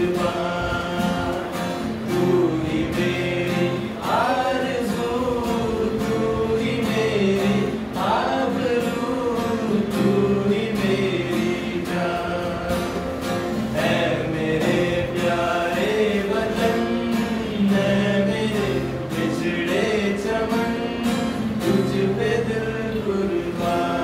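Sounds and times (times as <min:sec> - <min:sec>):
group of voices singing: 0:00.0 - 0:24.0
strummed acoustic guitar: 0:00.0 - 0:24.0.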